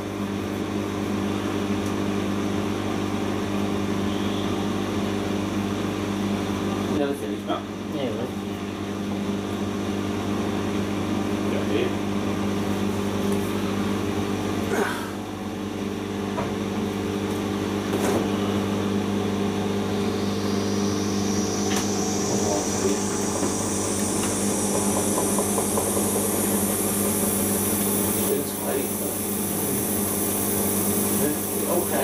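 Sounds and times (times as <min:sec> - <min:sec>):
high whine of spinning drum: 0:00.0 - 0:32.0
washing machine motor hum: 0:00.0 - 0:32.0.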